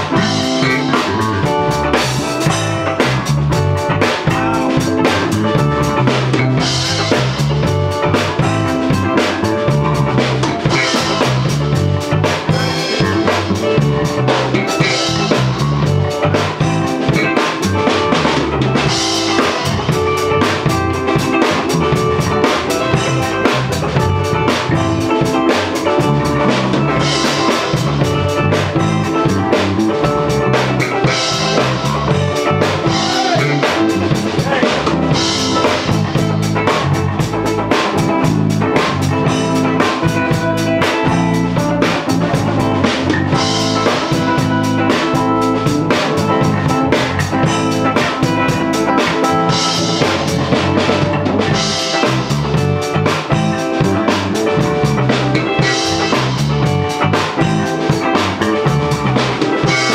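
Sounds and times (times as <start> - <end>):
drum beat: 0.0 - 59.9
electric bass guitar: 0.0 - 59.9.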